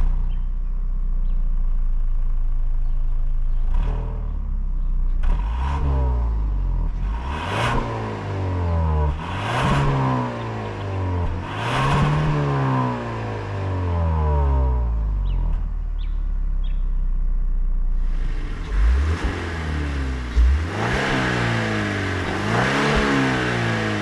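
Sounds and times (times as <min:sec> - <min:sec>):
car engine accelerating hard: 0:03.4 - 0:16.8, 0:18.0 - 0:24.0.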